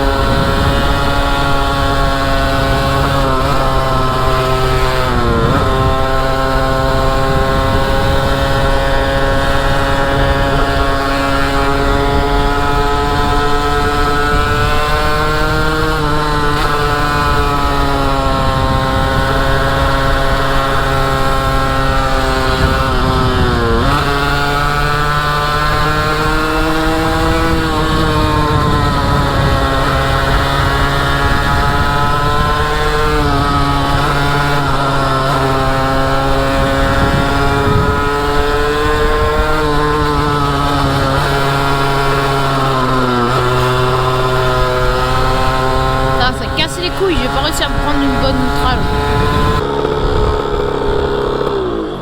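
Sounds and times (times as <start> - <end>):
motorcycle engine at high revs: 0.0 - 52.0.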